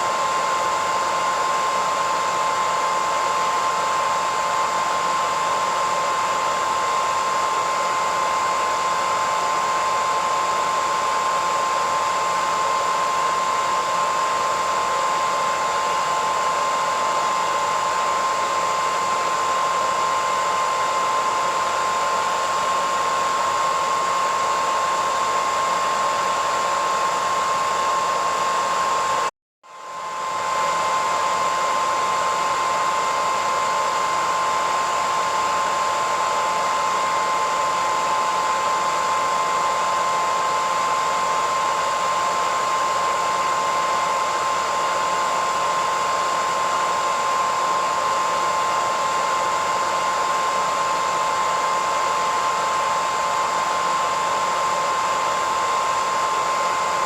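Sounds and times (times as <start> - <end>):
hairdryer running: 0.0 - 57.0.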